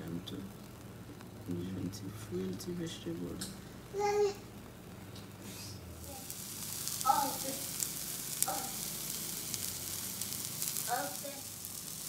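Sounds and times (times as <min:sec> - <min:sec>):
batter sizzling in a pan: 0:00.0 - 0:12.0.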